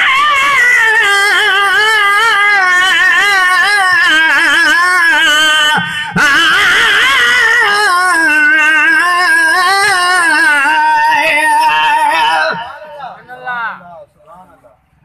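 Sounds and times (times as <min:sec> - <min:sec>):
men singing devotional song: 0:00.0 - 0:13.0.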